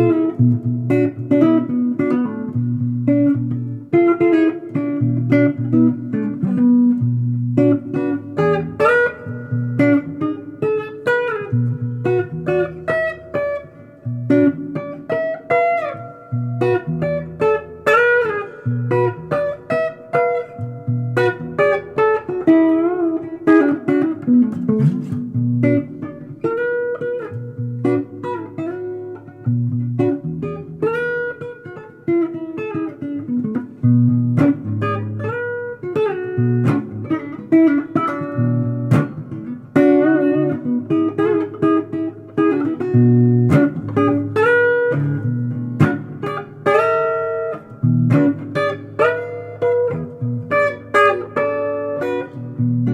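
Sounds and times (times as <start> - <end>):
blues guitar lead lines: 0.0 - 52.9
low repeating guitar figure: 0.0 - 52.9.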